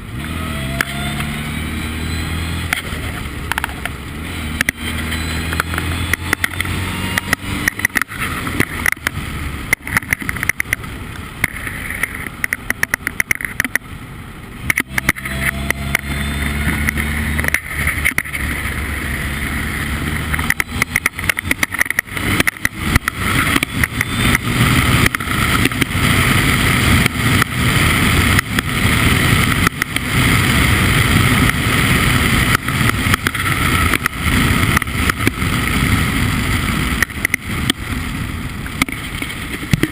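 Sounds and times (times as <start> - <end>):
crackling rushing noise: 0.0 - 39.9
race car engine: 0.0 - 39.9.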